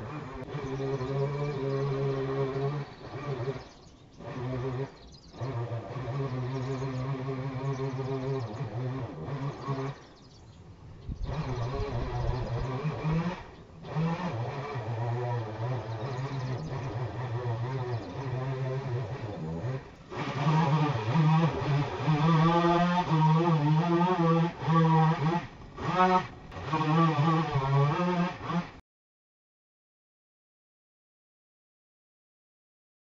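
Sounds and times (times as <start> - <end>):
small engine revving: 0.0 - 28.8.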